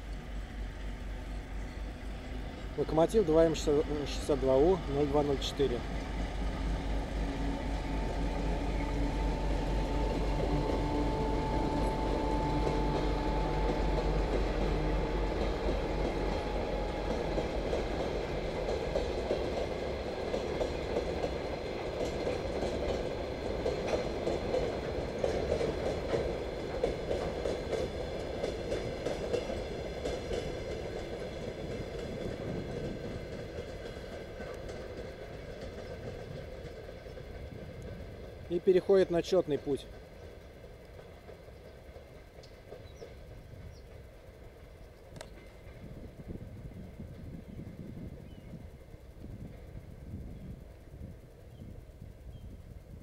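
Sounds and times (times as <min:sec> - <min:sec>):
diesel locomotive engine drone: 0:00.0 - 0:53.0
wagons rumbling over rails: 0:00.0 - 0:53.0.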